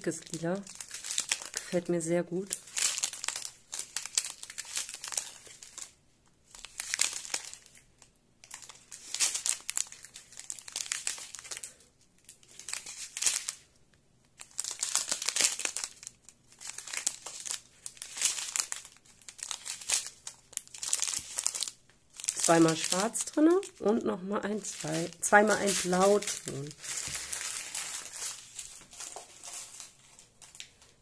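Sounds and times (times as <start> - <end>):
small plastic bags crinkling: 0.0 - 31.0.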